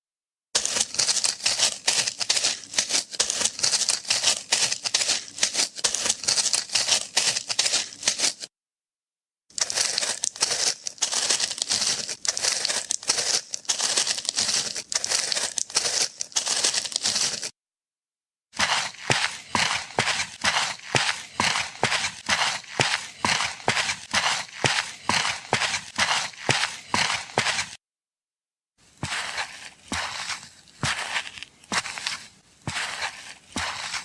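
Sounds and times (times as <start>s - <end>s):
dense crinkling crackle: 0.6s - 8.5s, 9.5s - 17.6s, 18.6s - 27.8s, 28.8s - 34.0s.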